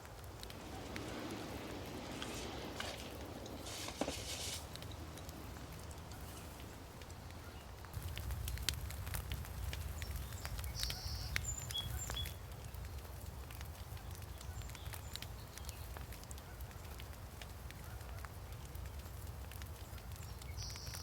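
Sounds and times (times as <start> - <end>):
sharp clicks and crackles: 0.0 - 21.0.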